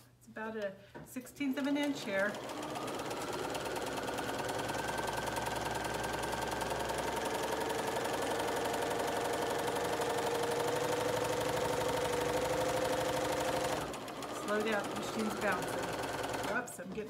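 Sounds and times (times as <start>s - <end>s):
sewing machine motor whine: 1.8s - 17.0s.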